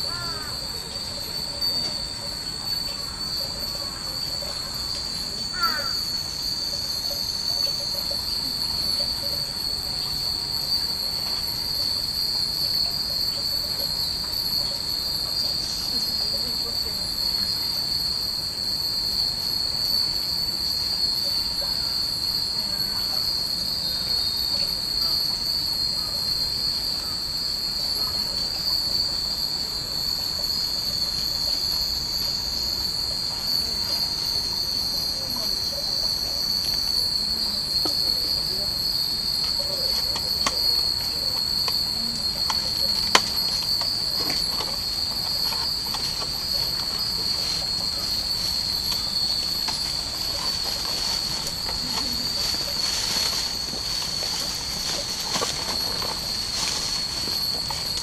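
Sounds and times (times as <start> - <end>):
high-pitched cicada drone: 0.0 - 58.0
wind chimes tinkling: 0.1 - 27.6, 28.2 - 58.0.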